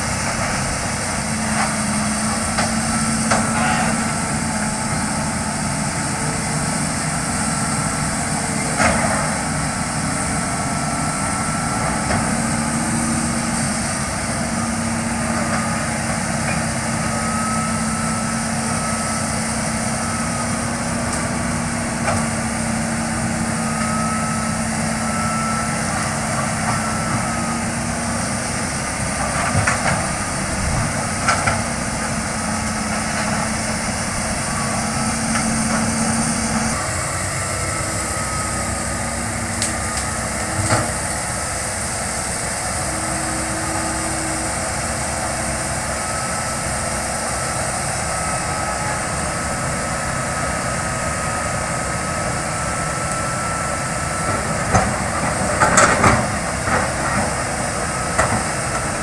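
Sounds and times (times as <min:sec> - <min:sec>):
excavator diesel engine running: 0:00.0 - 0:59.0
steady whine: 0:00.0 - 0:59.0.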